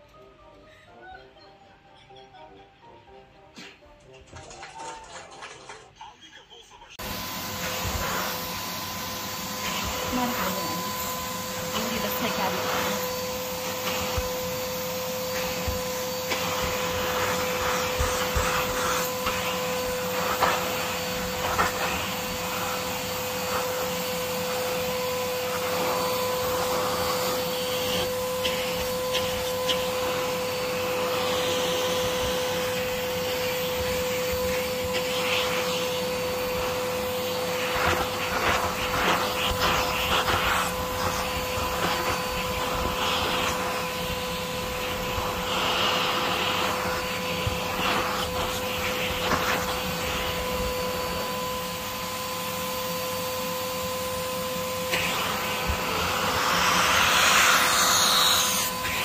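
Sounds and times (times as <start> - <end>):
vacuum cleaner whining: 7.0 - 59.0.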